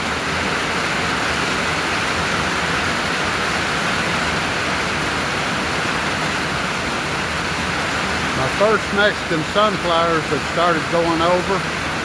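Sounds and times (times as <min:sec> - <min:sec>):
heavy rain drumming on a roof: 0:00.0 - 0:12.0.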